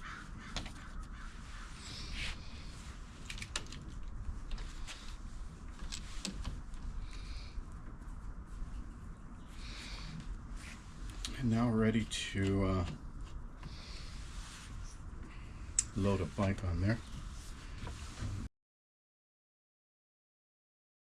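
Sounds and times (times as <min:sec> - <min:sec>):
steady low rumble: 0:00.0 - 0:18.5.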